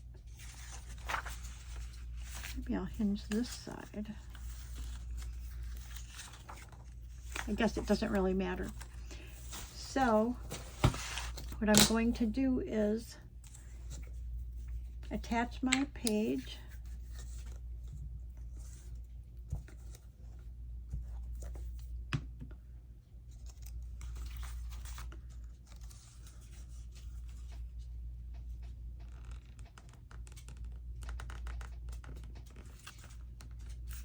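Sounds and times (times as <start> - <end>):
steady low hum: 0.0 - 29.1
paper rustling and scratching: 0.2 - 12.0, 13.4 - 22.0, 23.3 - 34.0.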